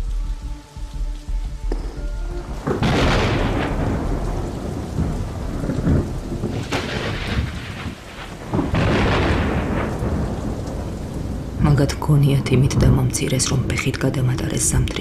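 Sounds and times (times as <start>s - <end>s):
heavy rain: 0.0s - 15.0s
thunder rolling: 1.7s - 15.0s.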